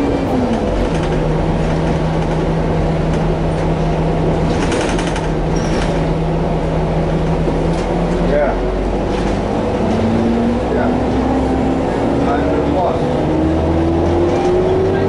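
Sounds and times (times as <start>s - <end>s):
bus engine drone: 0.0s - 15.0s
road rumble: 0.0s - 15.0s.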